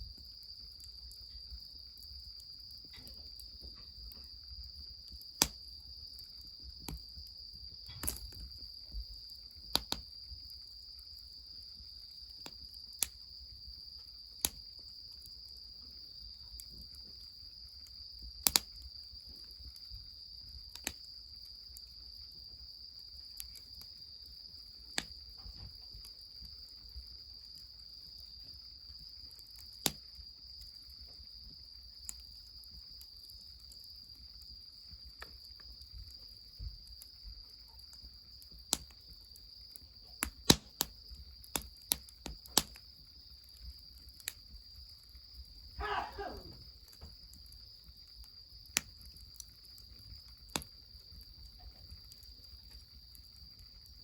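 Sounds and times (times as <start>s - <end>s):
insects chirring: 0.0s - 54.0s
fire popping: 0.1s - 17.2s, 17.8s - 21.9s, 22.7s - 54.0s
wood fire crackling: 0.1s - 54.0s.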